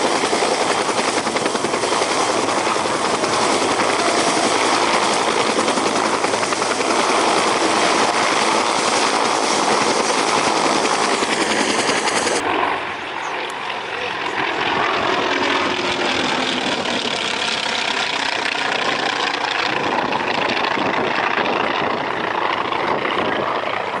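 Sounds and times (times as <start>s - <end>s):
helicopter rotor and engine noise: 0.0s - 24.0s.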